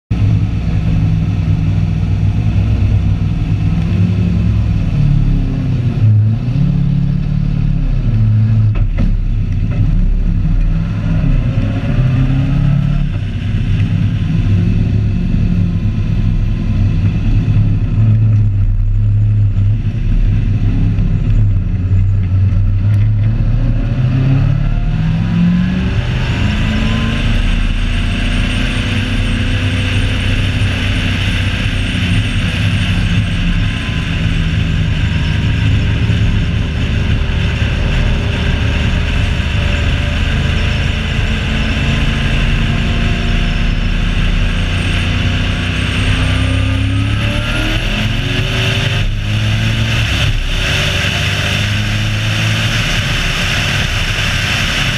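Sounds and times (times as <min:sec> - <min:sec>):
car engine revving: 0:00.1 - 0:54.9.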